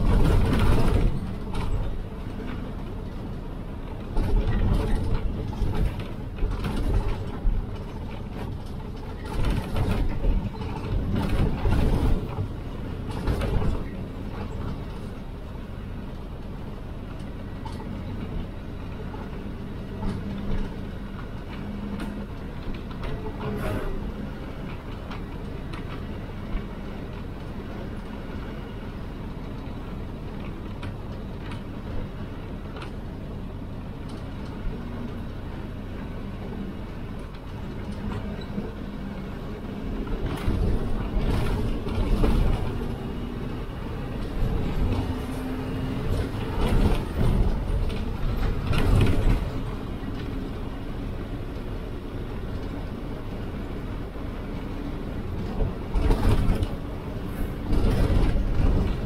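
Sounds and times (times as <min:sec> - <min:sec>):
bus engine and road rumble: 0:00.0 - 0:59.0
wind noise: 0:00.0 - 0:59.0.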